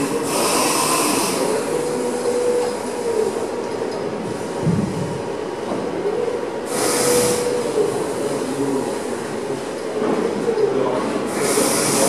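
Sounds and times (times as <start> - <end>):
steady whirring noise: 0.0 - 12.0.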